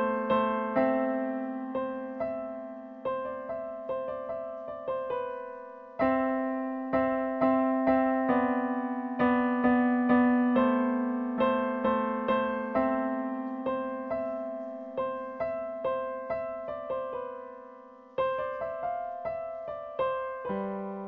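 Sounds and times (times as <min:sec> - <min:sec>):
digital piano slow melody: 0:00.0 - 0:21.0.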